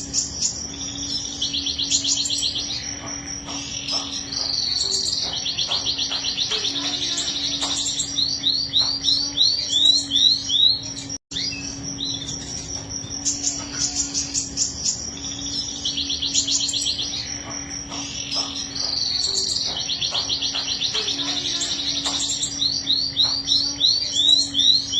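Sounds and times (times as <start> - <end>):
canary singing trills: 0.0 - 24.9.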